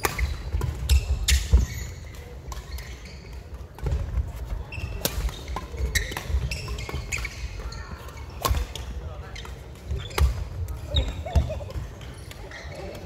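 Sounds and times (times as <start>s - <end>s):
shoes squeaking: 0.0s - 13.0s.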